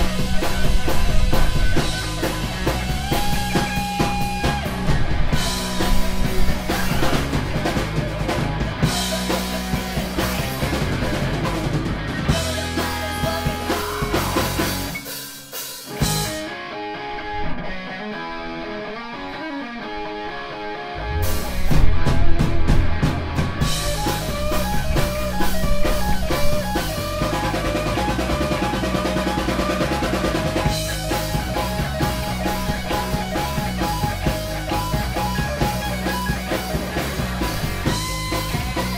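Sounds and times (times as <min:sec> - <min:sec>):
drums crashing: 0:00.0 - 0:16.5, 0:21.0 - 0:38.9
live rock band playing: 0:00.0 - 0:38.9.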